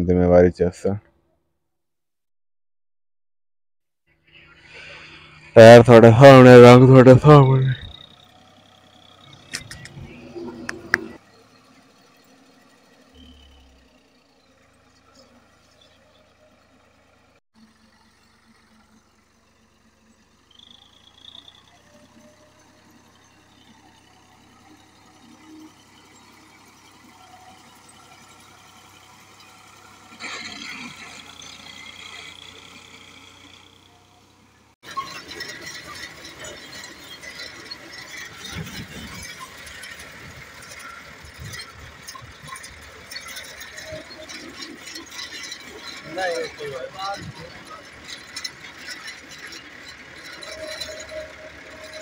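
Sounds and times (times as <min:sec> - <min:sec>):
distant tractor engine: 0:04.1 - 0:52.0
metal parts rattling and squeaking: 0:04.3 - 0:52.0.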